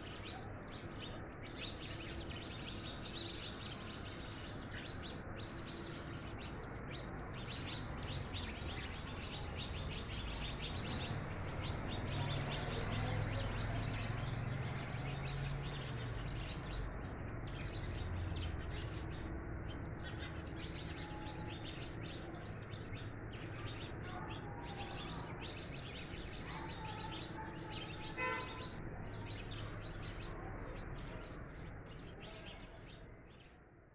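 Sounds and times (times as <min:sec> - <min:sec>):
sparrows chirping: 0:00.0 - 0:33.9.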